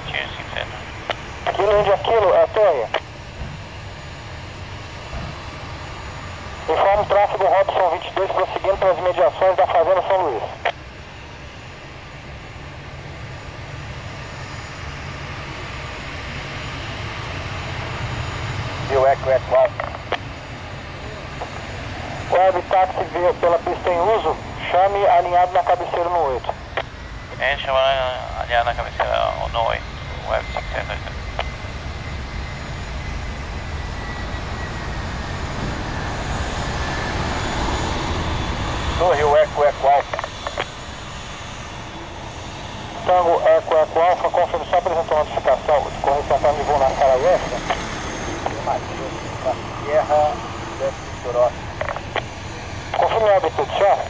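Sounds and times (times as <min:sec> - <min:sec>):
jet engines rumbling and hissing: 0:00.0 - 0:54.0.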